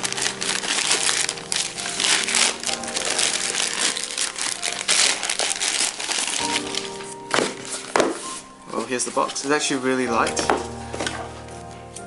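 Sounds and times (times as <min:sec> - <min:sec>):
packaging crinkling: 0:00.0 - 0:11.4.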